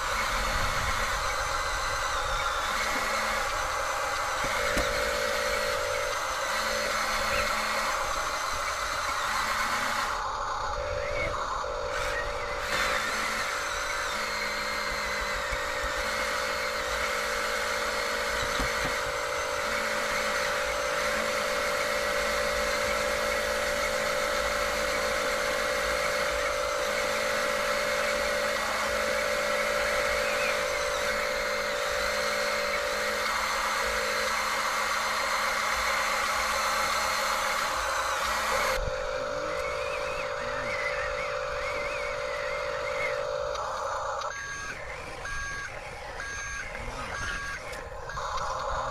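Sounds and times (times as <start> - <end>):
lower motor tone: 0.0 - 48.9
small electric motors whining: 0.0 - 48.9.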